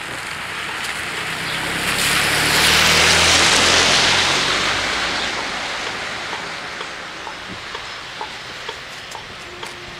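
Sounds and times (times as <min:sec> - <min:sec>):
car engine hum: 0:00.0 - 0:09.9
tyres hissing on wet road: 0:00.0 - 0:09.9.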